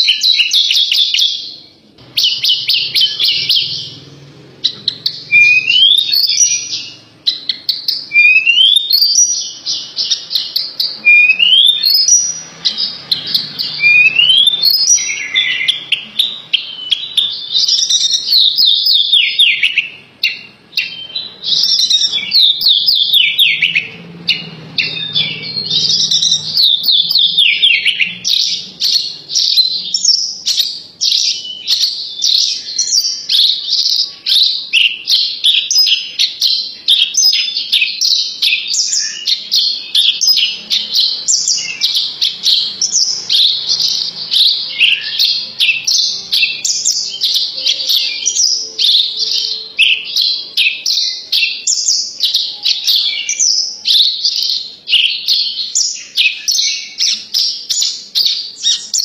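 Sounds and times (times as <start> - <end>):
lark singing high chirps and trills: 0.0 - 59.0.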